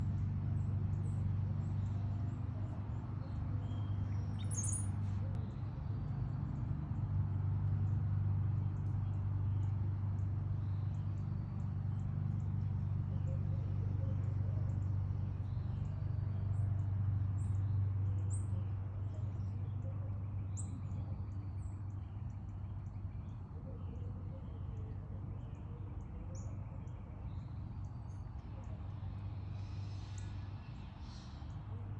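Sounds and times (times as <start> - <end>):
small birds chirping: 0.0 - 6.4, 7.8 - 31.9
steady low hum: 0.0 - 31.9.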